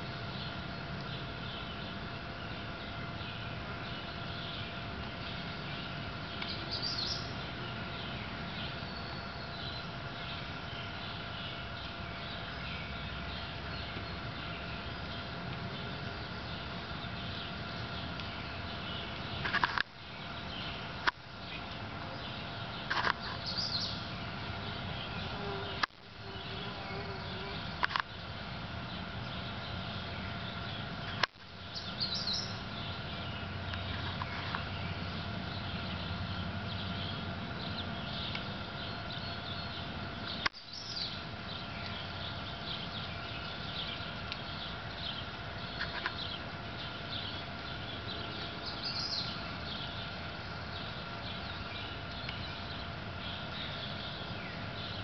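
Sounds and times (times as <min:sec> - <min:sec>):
songbirds chirping faintly: 0:00.0 - 0:55.0
steady low hum: 0:00.0 - 0:55.0.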